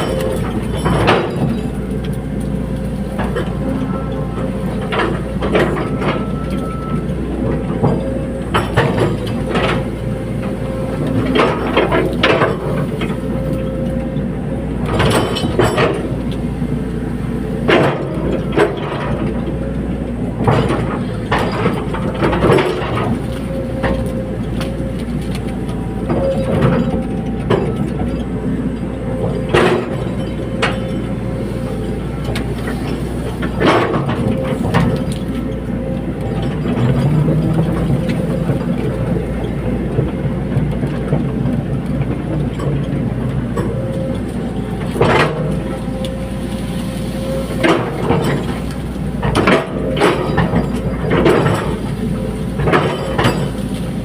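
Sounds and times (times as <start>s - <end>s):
metallic clanks and knocks: 0.0s - 16.6s, 17.6s - 54.0s
excavator diesel engine running: 0.0s - 54.0s.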